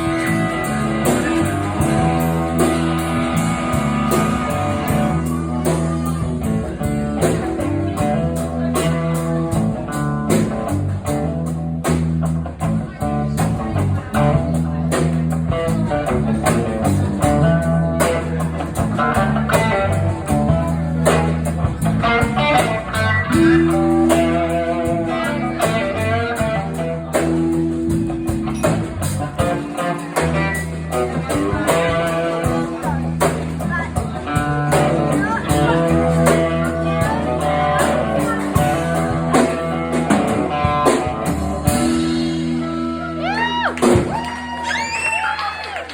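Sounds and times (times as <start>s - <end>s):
steady drum beat: 0.0s - 45.0s
electric guitar lines: 0.0s - 45.3s
bass line: 0.0s - 45.7s
rock band playing: 0.0s - 45.9s.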